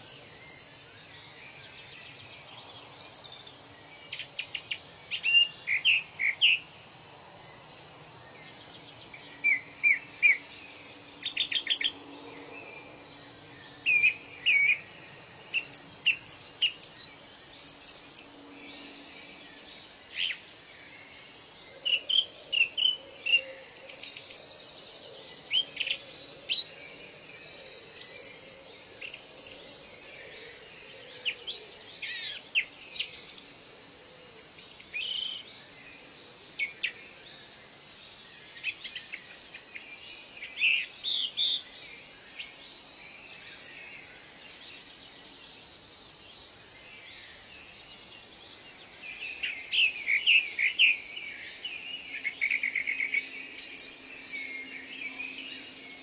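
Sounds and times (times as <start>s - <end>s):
birds chirping and trilling: 0.0s - 56.0s
faint ambient background noise: 0.0s - 56.0s.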